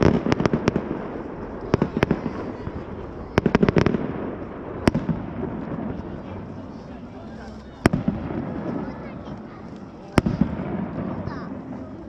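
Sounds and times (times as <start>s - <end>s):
fireworks bangs: 0.0s - 12.0s
rumble and crackle: 0.0s - 12.0s.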